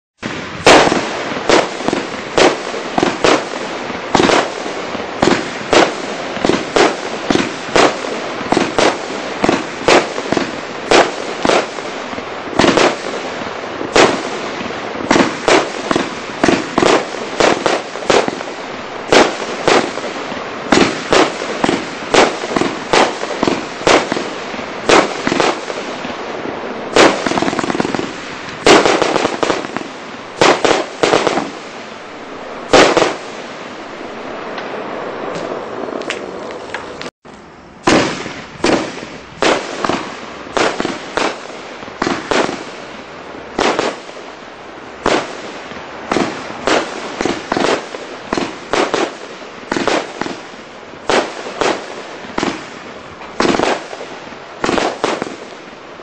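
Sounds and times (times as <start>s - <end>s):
firework shots banging: 0.2s - 26.2s, 26.9s - 31.9s, 32.6s - 33.7s, 34.5s - 37.1s, 37.8s - 44.3s, 45.0s - 55.6s.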